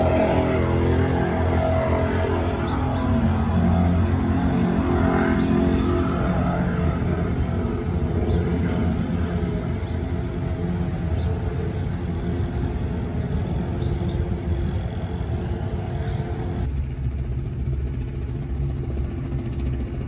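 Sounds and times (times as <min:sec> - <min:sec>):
powerboat engines droning: 0:00.0 - 0:20.0.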